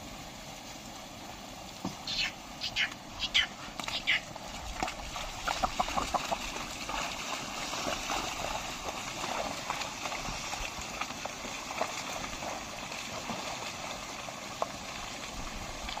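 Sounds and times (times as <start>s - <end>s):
hooves squelching in mud: 0.0s - 16.0s
water splashing in muddy field: 0.0s - 16.0s.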